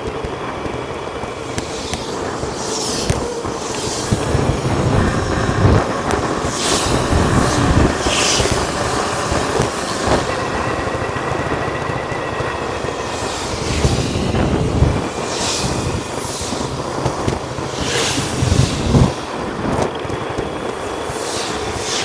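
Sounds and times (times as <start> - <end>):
hissing wind gusts: 0.0 - 22.0
wind and road noise: 0.0 - 22.0.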